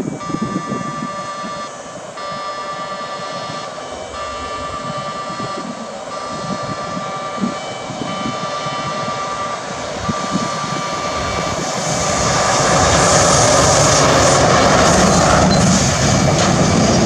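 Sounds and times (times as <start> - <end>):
freight train passing: 0.0 - 17.0
railway warning alarm ringing: 0.0 - 17.0.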